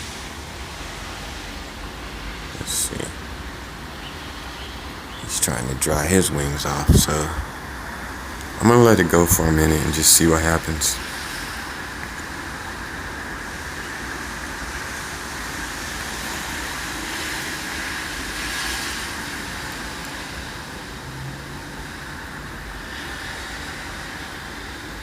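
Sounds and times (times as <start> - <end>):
distant city traffic: 0.0 - 25.0.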